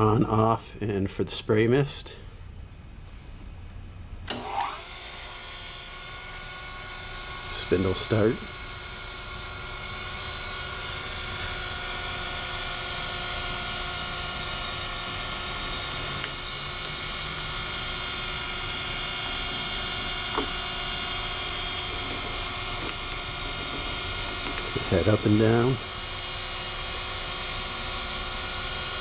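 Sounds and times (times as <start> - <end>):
grinder motor whine: 4.3 - 29.0.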